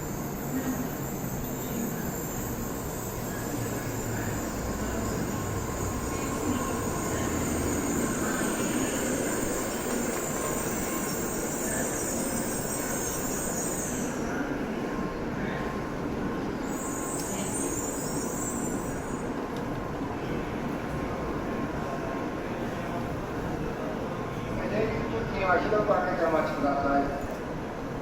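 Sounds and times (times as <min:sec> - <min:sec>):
high even train whine: 0:00.0 - 0:28.0
train rumble: 0:00.0 - 0:28.0.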